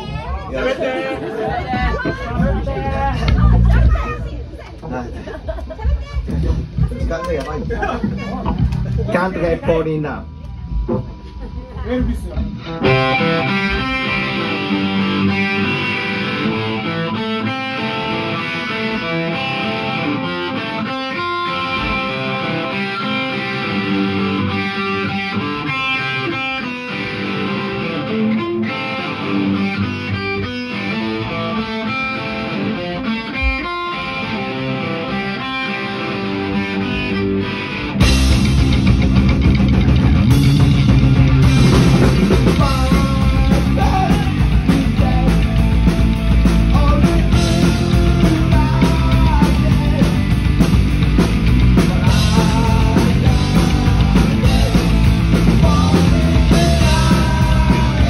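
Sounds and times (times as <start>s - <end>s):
electric guitar: 0.0s - 58.0s
rock band playing: 0.0s - 58.0s.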